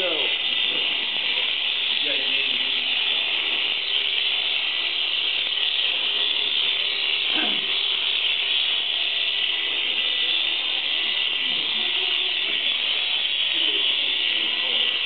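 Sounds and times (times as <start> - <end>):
electric shears buzzing: 0.0 - 15.0.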